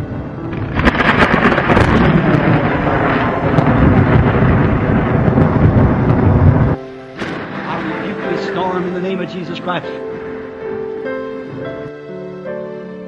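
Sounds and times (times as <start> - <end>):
rolling thunder: 0.0 - 11.9.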